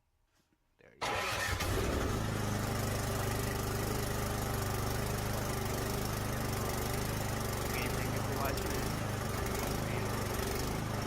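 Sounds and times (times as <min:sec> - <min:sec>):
snowblower engine running: 0:01.0 - 0:11.0.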